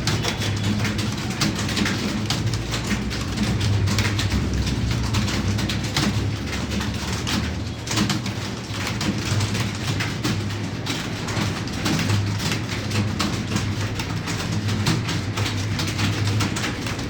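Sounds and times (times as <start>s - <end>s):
keyboard typing: 0.0s - 10.5s, 11.1s - 17.0s.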